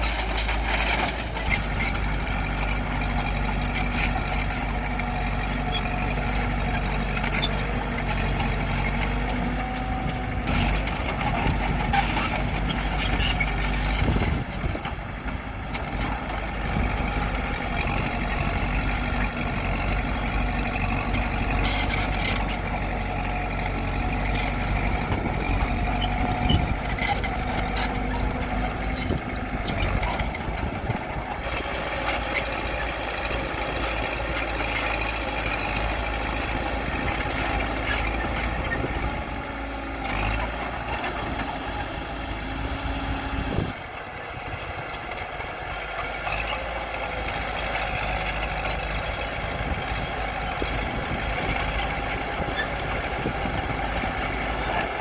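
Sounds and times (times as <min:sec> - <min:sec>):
metal clanks and squeaks: 0:00.0 - 0:42.1, 0:42.7 - 0:55.0
diesel machinery engine running: 0:00.0 - 0:55.0.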